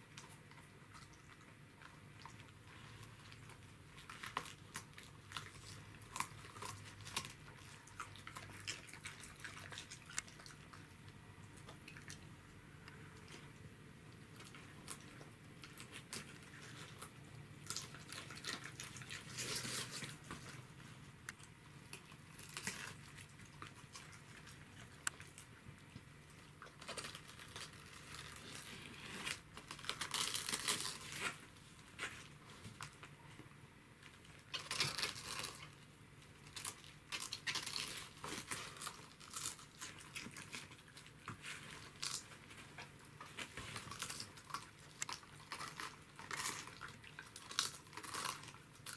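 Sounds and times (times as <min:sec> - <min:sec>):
dogs crunching cabbage: 0:00.0 - 0:33.3, 0:34.0 - 0:48.9.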